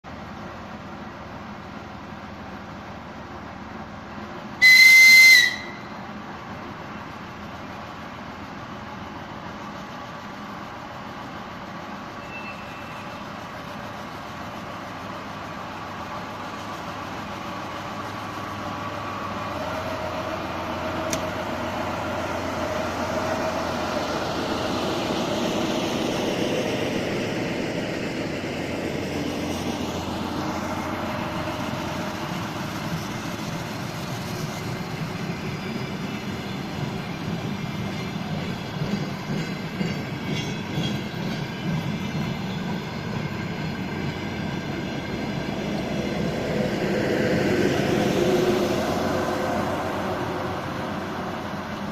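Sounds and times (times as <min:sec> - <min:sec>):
diesel train engines under load: 0:00.0 - 0:51.9
train running noise: 0:00.1 - 0:51.9.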